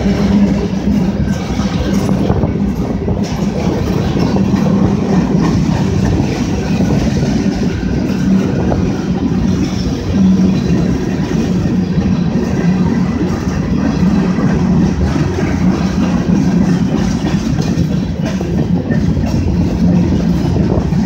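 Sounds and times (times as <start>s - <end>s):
freight train rumbling past: 0.0s - 21.0s
wheel clatter over rails: 0.0s - 21.0s.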